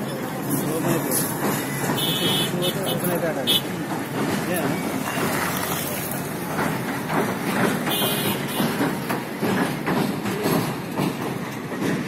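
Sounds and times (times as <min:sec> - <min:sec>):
train wheels clattering over rail joints: 0:00.0 - 0:12.0.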